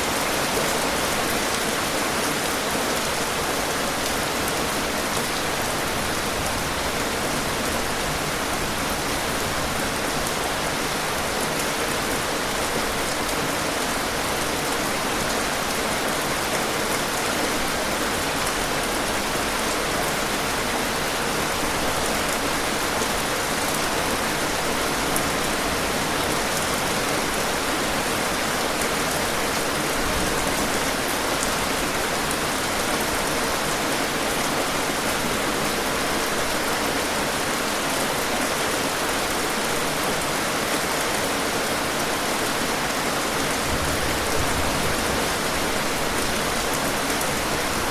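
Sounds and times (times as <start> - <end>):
rain pattering on surfaces: 0.1 - 47.9.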